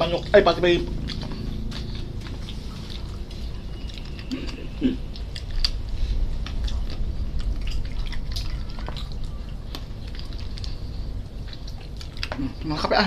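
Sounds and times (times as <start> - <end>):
wet chewing mouth sounds: 0.0 - 12.9
steady low rumble: 0.0 - 13.0.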